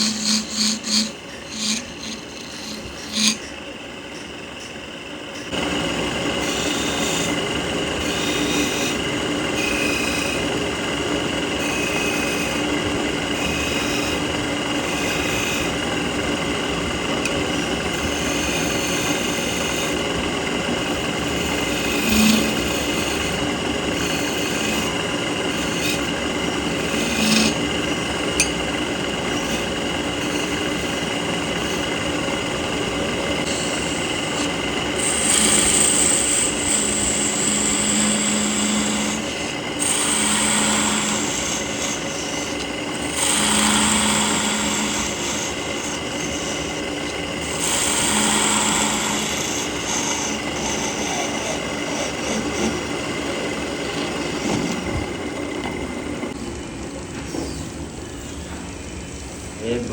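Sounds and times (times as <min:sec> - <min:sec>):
power tool cutting wood: 0:00.0 - 0:03.5, 0:05.4 - 0:56.4.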